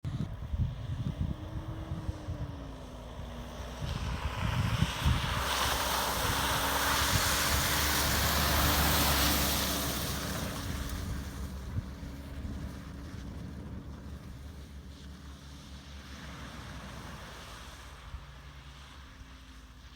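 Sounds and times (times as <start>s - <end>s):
engine droning: 0.1s - 19.9s.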